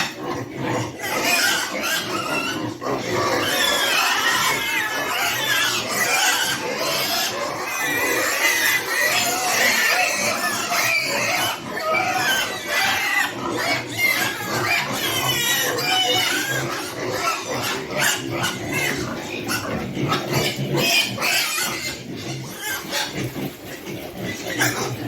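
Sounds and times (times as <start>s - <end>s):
pigs squealing and grunting: 0.0s - 25.0s.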